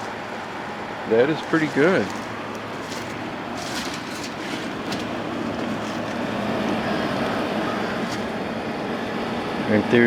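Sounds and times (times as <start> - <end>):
air conditioner running: 0.0 - 10.0.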